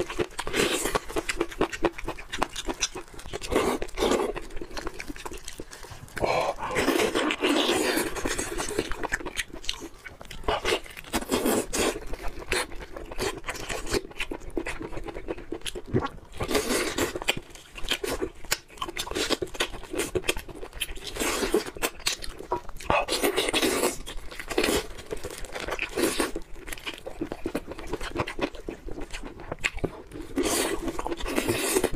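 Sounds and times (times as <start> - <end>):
wet chewing and lip smacks: 0.0 - 6.2, 7.2 - 31.9.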